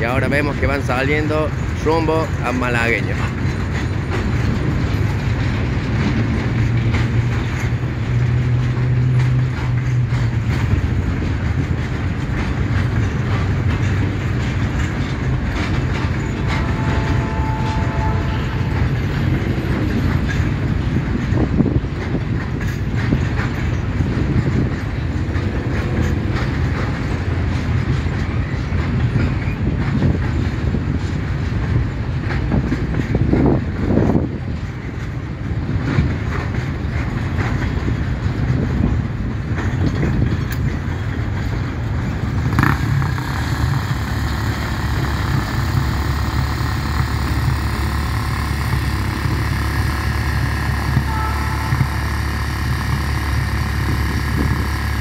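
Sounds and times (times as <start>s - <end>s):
train wheels clickety-clack on rail: 0.0s - 55.0s.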